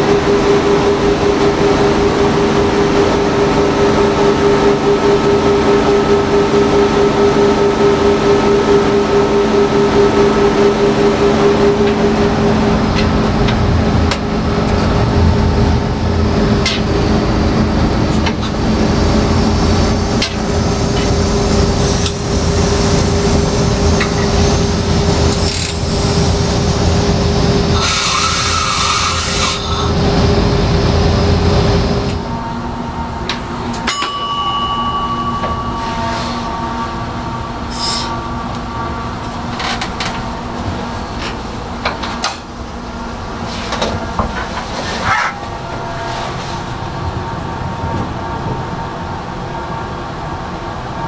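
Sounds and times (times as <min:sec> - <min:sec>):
rail vehicle mechanical hum: 0:00.0 - 0:51.0.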